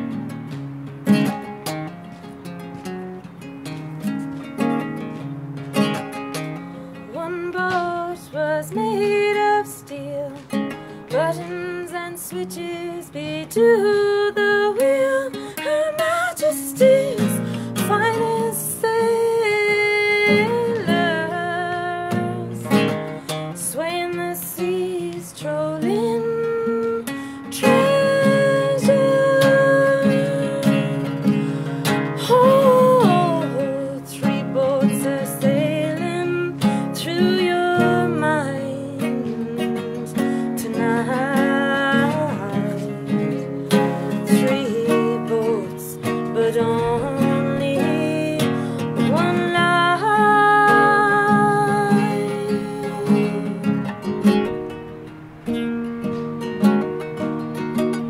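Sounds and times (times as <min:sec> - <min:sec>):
strummed acoustic guitar: 0:00.0 - 0:58.0
woman singing: 0:05.2 - 0:54.8.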